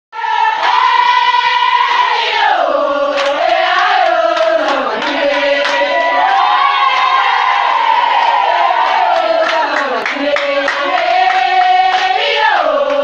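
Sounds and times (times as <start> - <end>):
crowd singing: 0.1 - 13.0.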